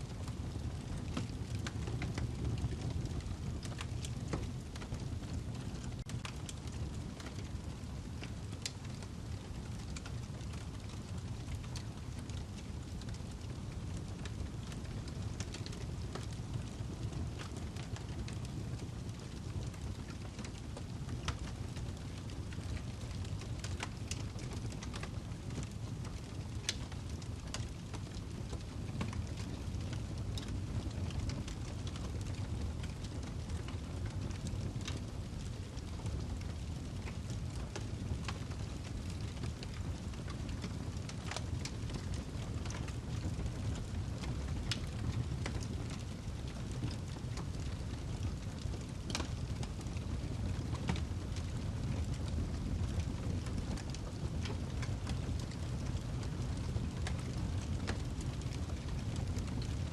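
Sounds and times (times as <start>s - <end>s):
low rumble of flames: 0.0s - 59.9s
log crackling and popping: 0.1s - 59.9s.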